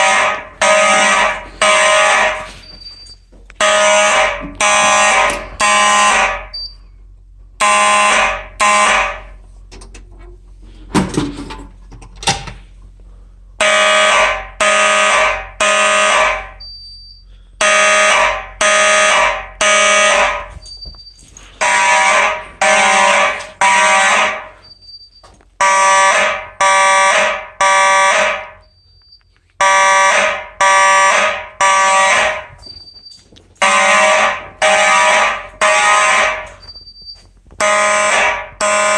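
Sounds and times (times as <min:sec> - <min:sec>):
fire alarm horns: 0:00.0 - 0:07.0, 0:07.6 - 0:09.4, 0:13.6 - 0:38.9.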